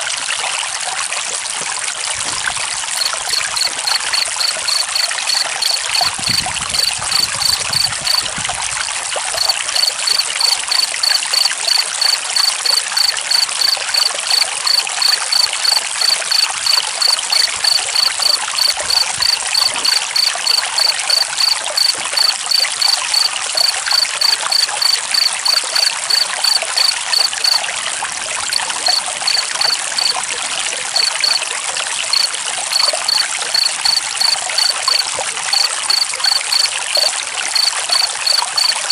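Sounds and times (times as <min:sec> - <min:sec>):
water trickling: 0:00.0 - 0:38.9
cricket chirping: 0:02.9 - 0:08.3, 0:09.2 - 0:27.7, 0:28.4 - 0:30.2, 0:31.0 - 0:31.4, 0:32.0 - 0:38.9.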